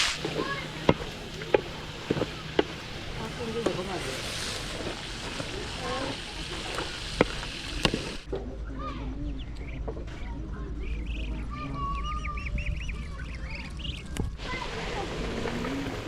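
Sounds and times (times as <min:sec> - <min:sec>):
birds chirping: 0:00.2 - 0:14.5
steady low hum: 0:00.2 - 0:16.0.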